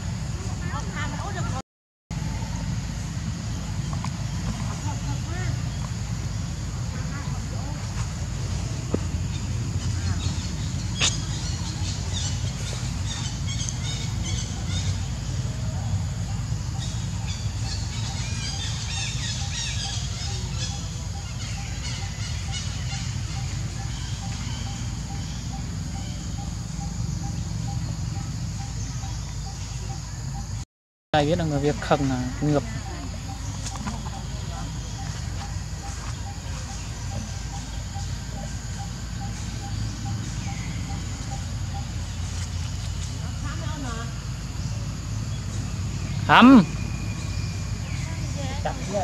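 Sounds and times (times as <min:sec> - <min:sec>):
birds chirping: 0:00.0 - 0:01.6, 0:02.2 - 0:30.6, 0:31.2 - 0:49.0
steady low rumble: 0:00.0 - 0:30.6, 0:32.2 - 0:49.0.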